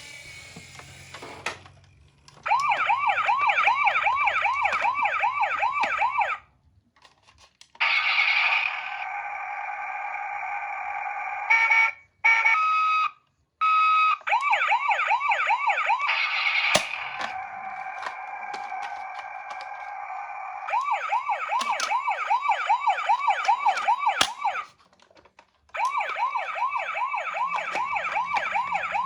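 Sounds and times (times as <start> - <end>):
toy electronic siren yelping: 2.4 - 6.4, 7.8 - 24.8, 25.8 - 29.0.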